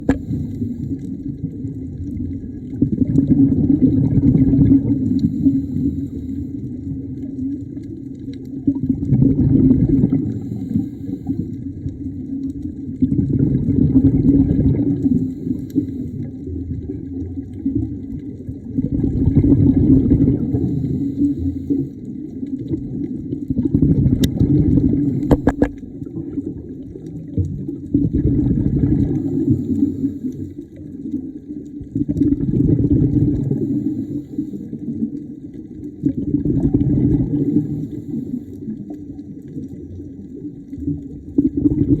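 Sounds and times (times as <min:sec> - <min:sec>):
underwater exhaled bubbles: 0:00.0 - 0:42.0.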